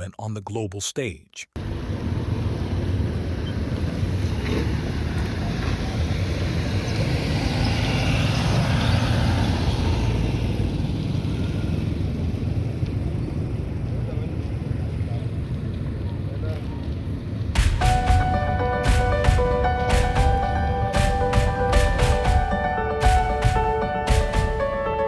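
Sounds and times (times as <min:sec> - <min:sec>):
road traffic: 0:01.6 - 0:25.0.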